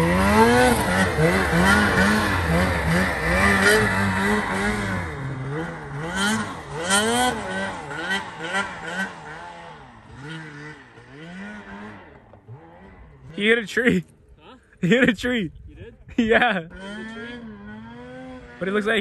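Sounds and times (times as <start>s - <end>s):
snowmobile engine revving: 0.0s - 14.1s, 16.1s - 19.0s.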